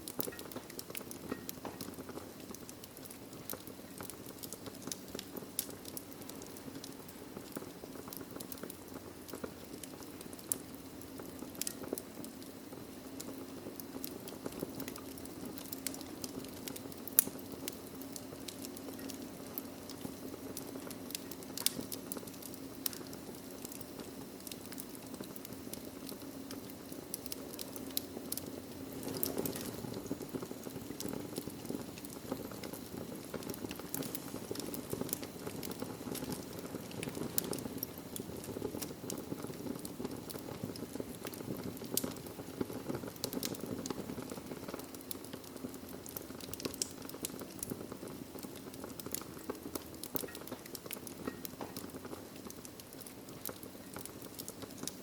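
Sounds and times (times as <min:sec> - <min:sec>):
low rush of burning: 0:00.0 - 0:55.0
wood fire crackling and popping: 0:00.0 - 0:55.0.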